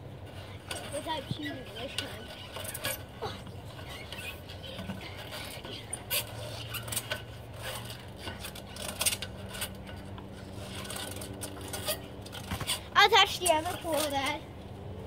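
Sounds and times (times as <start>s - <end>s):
hands scraping on climbing poles: 0.2s - 14.4s.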